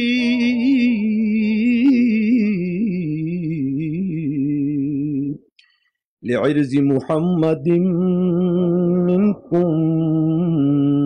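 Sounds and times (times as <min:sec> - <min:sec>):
man singing unaccompanied: 0:00.0 - 0:05.4, 0:06.8 - 0:11.0.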